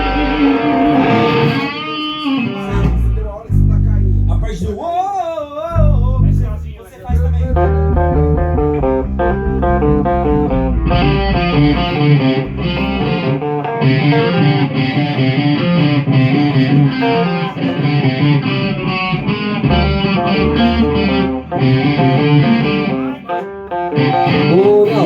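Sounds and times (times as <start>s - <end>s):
distorted electric guitar: 0.0s - 4.6s, 5.8s - 25.0s.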